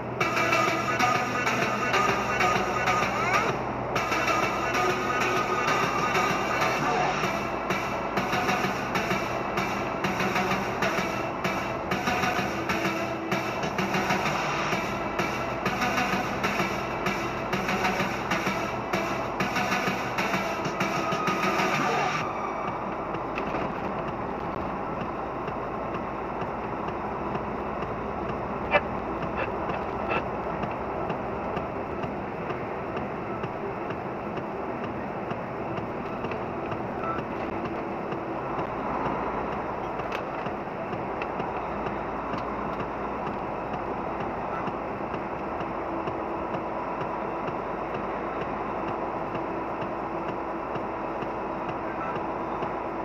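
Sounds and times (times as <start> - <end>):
truck engine and tyre noise: 0.0 - 53.0.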